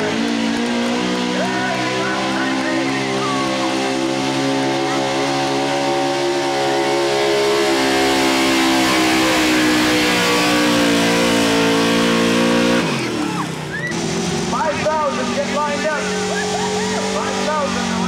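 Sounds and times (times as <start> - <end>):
truck engine running under load: 0.0 - 18.0.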